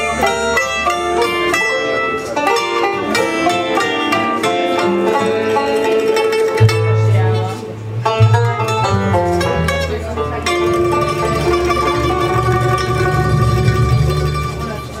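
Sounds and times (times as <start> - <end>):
banjo and mandolin picking: 0.0 - 15.0
bluegrass band playing: 0.0 - 15.0.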